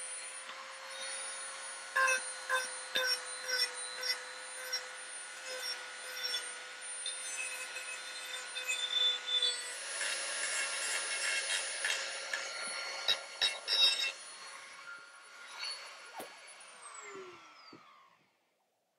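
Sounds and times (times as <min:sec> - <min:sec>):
rotary tool sanding wood: 0:00.0 - 0:18.0.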